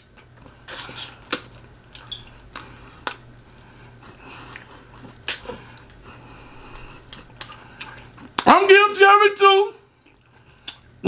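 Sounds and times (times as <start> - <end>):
person chewing and lip smacking: 0.0 - 8.5, 10.0 - 11.0
faint low hum: 0.0 - 11.0.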